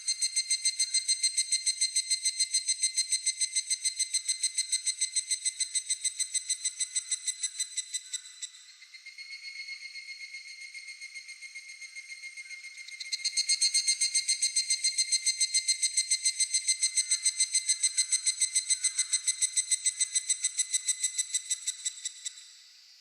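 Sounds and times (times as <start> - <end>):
cicada ringing pulses: 0.0 - 22.5
insects trilling: 0.0 - 23.0.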